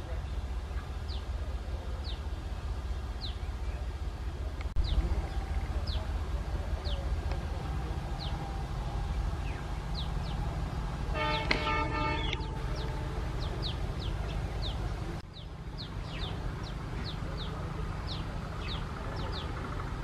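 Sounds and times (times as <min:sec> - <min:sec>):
bird chirping: 0:00.0 - 0:20.0
diesel locomotive engine rumbling: 0:00.0 - 0:20.0.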